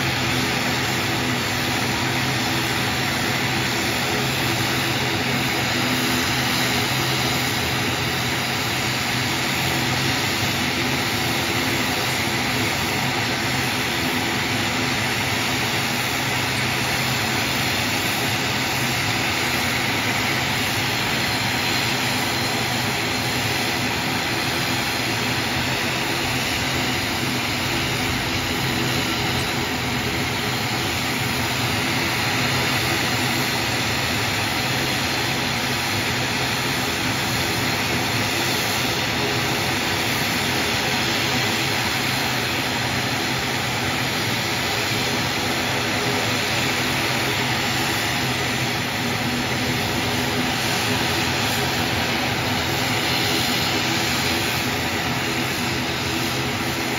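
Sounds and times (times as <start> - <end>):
turboprop engine and propeller drone: 0.0 - 56.9.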